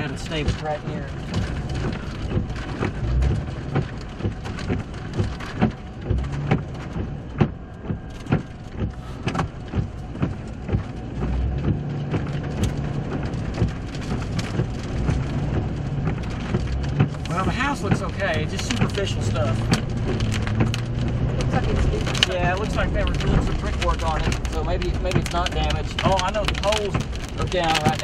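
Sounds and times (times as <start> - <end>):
engine humming: 0.0 - 28.0
raindrops tapping on a vehicle: 0.0 - 28.0.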